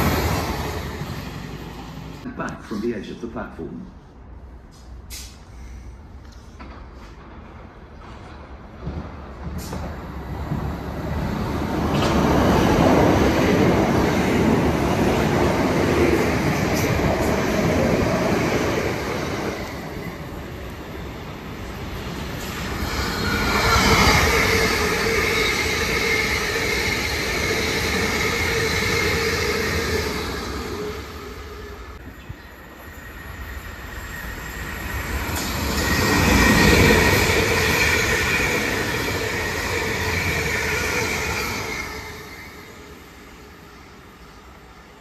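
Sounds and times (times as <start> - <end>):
trains rumbling past: 0.0 - 45.0.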